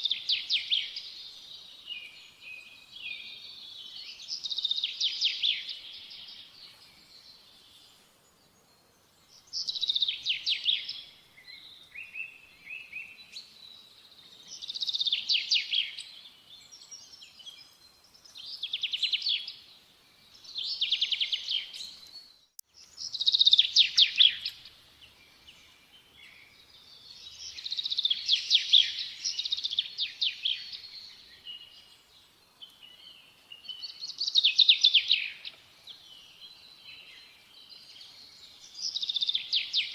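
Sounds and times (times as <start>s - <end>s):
songbird trilling song: 0.0s - 39.9s.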